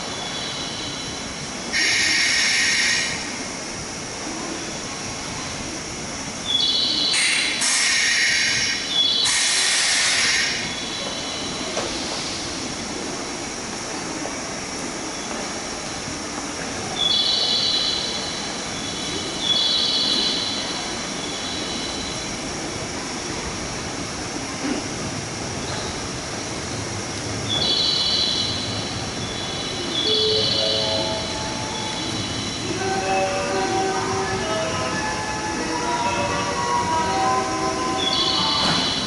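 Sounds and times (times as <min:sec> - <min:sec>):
train equipment humming: 0:00.0 - 0:39.0.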